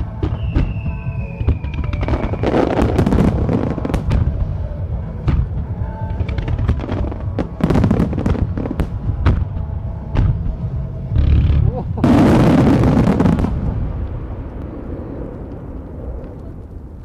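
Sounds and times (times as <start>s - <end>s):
music playing: 0.0s - 15.0s
fireworks bursting and crackling: 0.0s - 17.0s.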